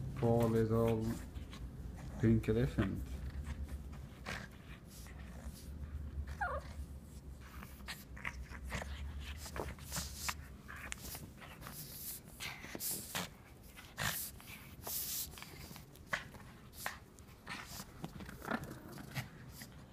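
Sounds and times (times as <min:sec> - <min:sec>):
dog scuffling with plush toy: 0:00.0 - 0:19.9.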